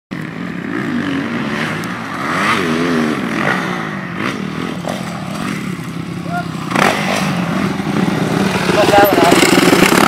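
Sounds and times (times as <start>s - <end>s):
motocross bike engine revving: 0.2s - 10.0s.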